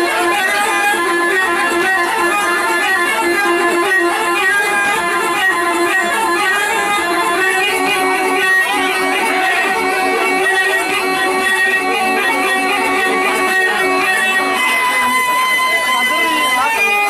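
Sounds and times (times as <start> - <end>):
plucked string notes: 0.0 - 17.0.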